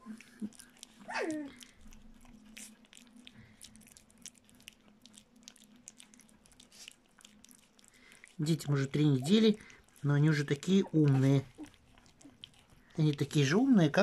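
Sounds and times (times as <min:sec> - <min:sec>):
puppy lapping and chewing: 0:00.0 - 0:14.0.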